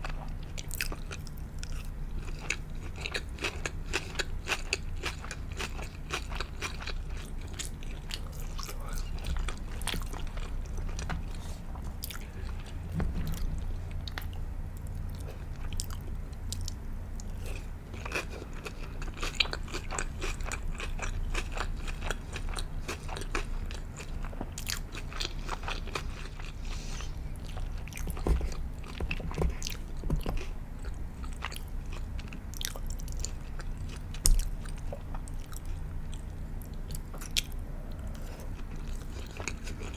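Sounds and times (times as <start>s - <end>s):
close chewing and biting: 0.0s - 39.9s.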